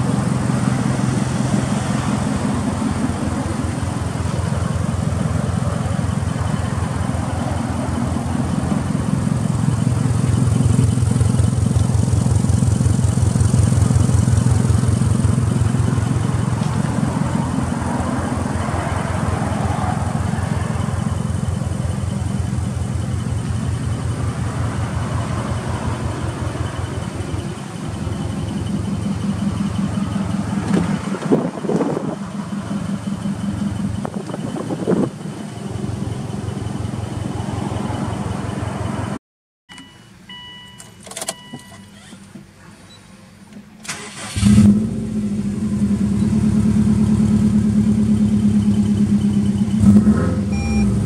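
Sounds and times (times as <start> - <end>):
car engine idling: 0.0 - 39.2, 39.8 - 51.0.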